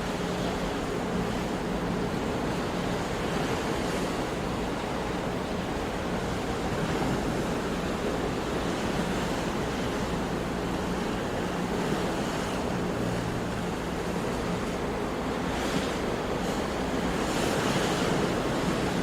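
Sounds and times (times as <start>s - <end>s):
sea surf washing on shore: 0.0s - 19.0s.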